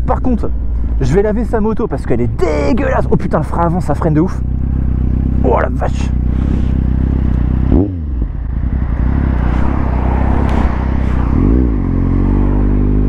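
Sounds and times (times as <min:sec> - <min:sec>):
motorcycle engine revving: 0:02.2 - 0:13.0.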